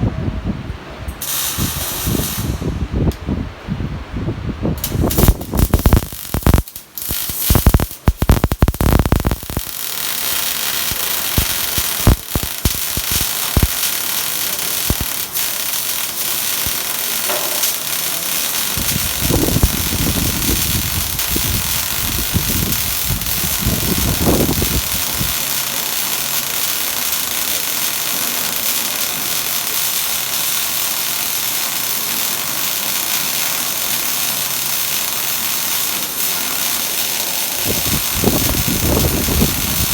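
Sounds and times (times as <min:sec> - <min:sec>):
welding arc hissing and crackling: 0:01.1 - 0:03.2, 0:04.8 - 0:39.9.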